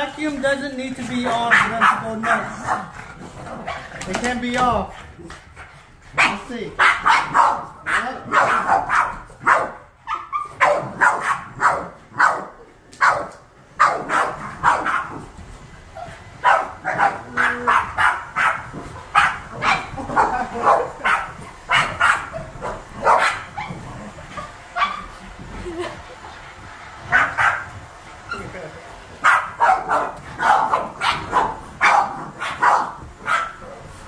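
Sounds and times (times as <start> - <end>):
stick vacuum cleaner running: 0.0 - 9.9, 10.5 - 34.0
dogs barking excitedly: 0.0 - 26.1, 26.9 - 28.5, 29.1 - 34.0.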